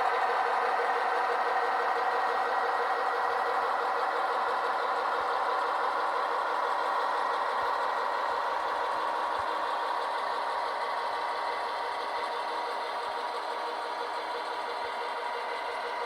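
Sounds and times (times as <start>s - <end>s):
model train running: 0.0s - 16.0s.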